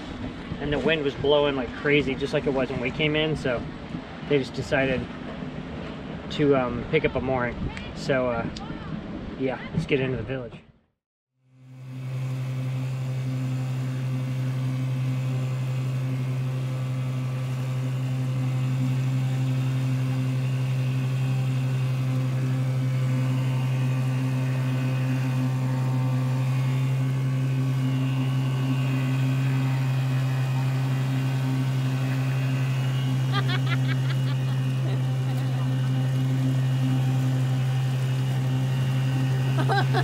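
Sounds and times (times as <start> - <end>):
outboard motor running: 0.0 - 10.5, 11.4 - 40.0.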